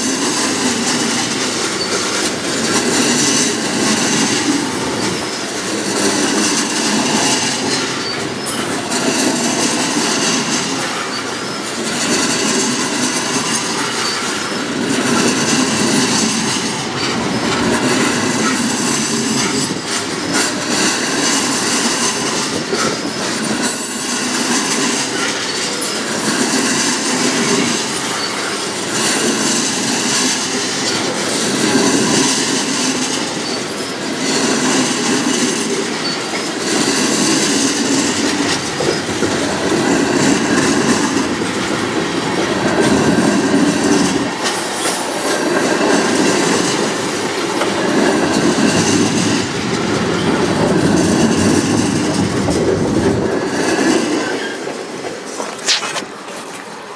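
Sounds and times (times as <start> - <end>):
freight train wheels rumbling on rails: 0.0 - 56.9.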